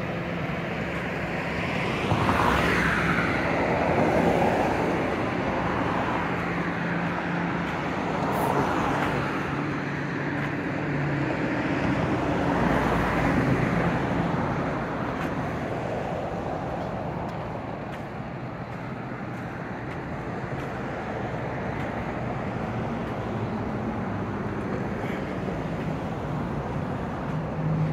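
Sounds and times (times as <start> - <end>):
cars passing: 0.0 - 27.9.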